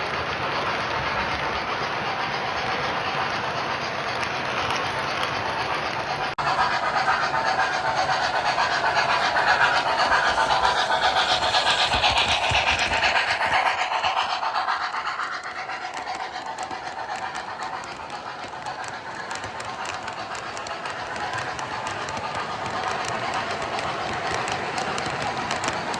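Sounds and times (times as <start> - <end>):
steam locomotive chuffing: 0.0 - 25.9.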